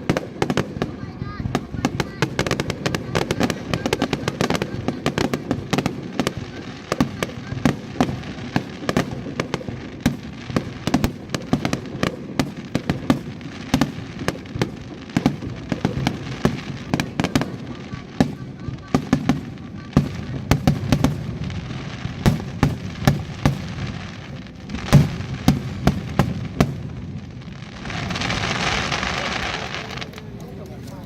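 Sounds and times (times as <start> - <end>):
fireworks booms: 0.0 - 30.4
fireworks bangs and crackling: 0.0 - 31.0.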